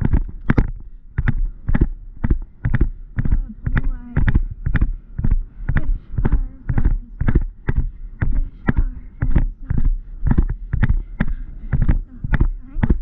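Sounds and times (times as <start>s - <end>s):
horse hoofbeats on grass: 0.0s - 13.0s
wind rumble on microphone: 0.0s - 13.0s.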